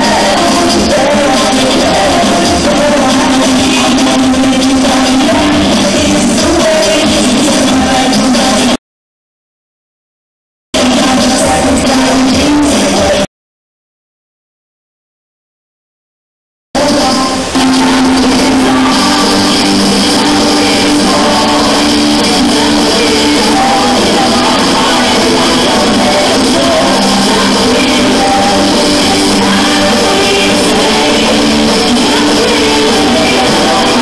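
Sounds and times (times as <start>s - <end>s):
pop-rock song with singing: 0.0s - 8.8s, 10.8s - 13.3s, 16.8s - 34.0s.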